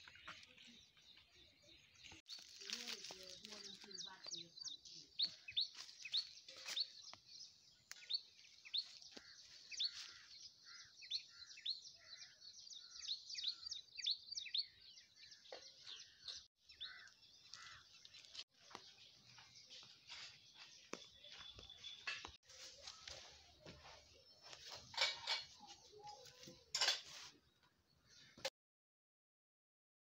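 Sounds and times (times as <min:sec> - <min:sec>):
small birds chirping: 0:00.0 - 0:28.5.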